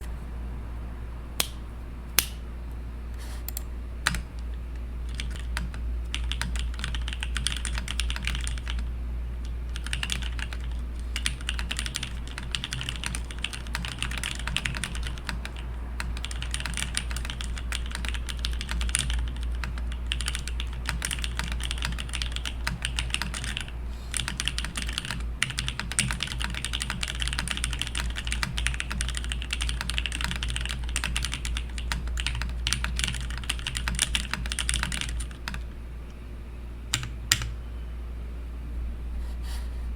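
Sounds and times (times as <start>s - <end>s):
steady low hum: 0.0s - 39.9s
mechanical keyboard typing: 3.5s - 35.6s, 36.9s - 37.6s.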